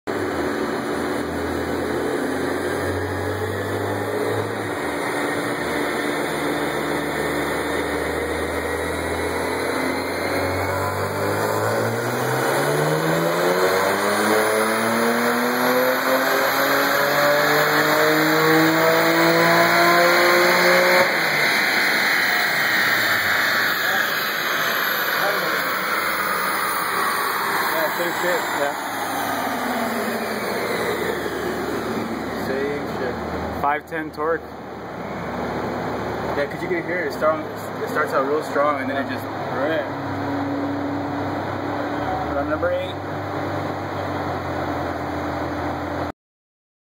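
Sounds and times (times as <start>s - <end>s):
car engine revving on dyno: 0.1s - 46.1s.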